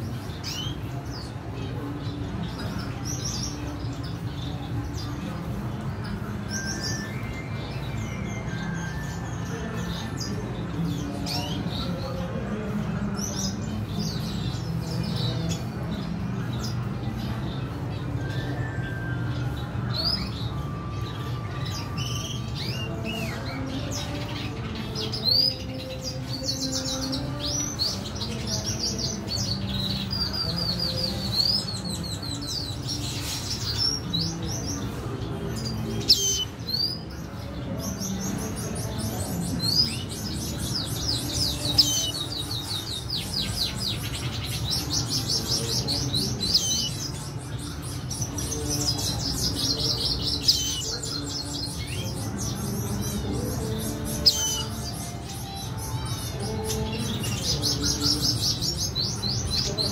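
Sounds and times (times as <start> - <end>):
birds twittering and trilling: 0.0 - 59.9.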